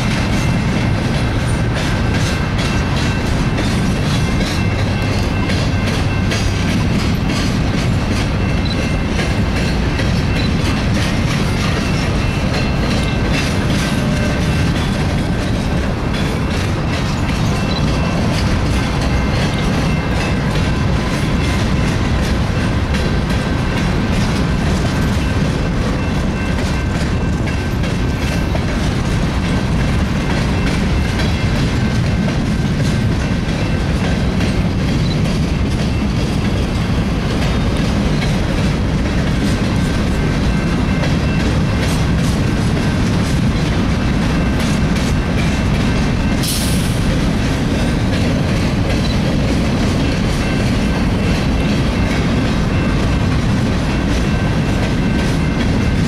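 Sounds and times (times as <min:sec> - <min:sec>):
train wheels clacking over rails: 0:00.0 - 0:56.0.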